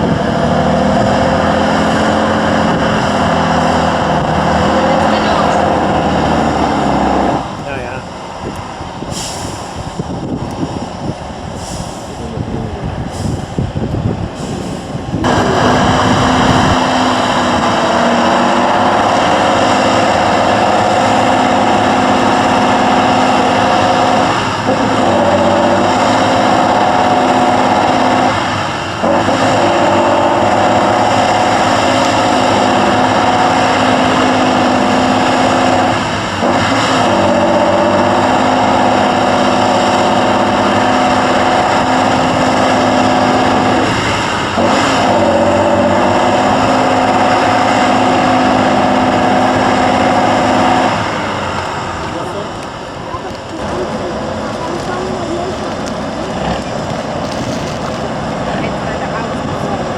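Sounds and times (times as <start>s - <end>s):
truck diesel engine revving: 0.0s - 59.9s.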